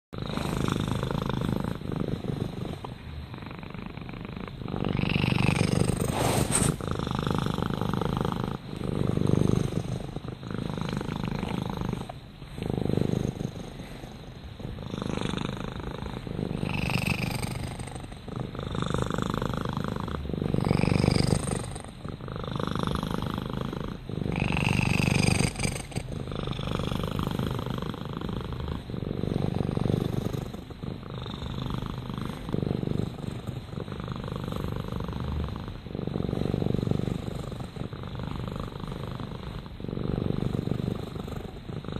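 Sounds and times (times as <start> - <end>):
cat purring: 0.2 - 41.9.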